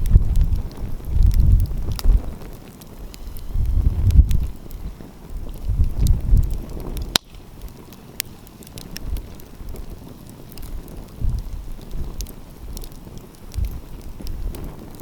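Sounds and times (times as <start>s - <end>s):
wind buffeting microphone: 0.0s - 15.0s
wood fire crackling and popping: 0.0s - 15.0s.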